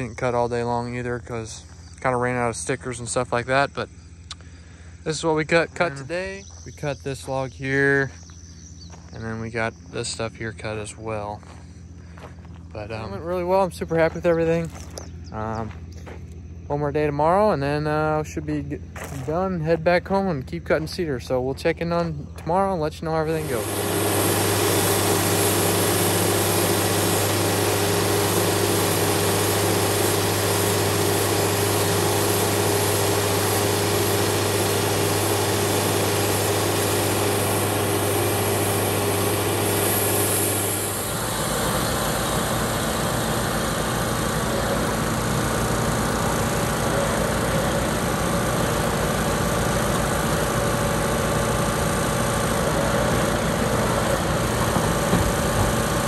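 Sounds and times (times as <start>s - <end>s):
sawmill engine running: 0.0s - 56.0s
track loader engine: 0.0s - 56.0s.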